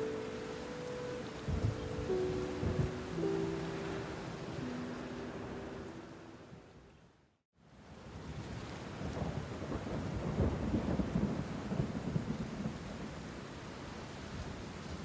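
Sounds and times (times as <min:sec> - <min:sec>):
rain falling: 0:00.0 - 0:06.7, 0:07.8 - 0:15.0.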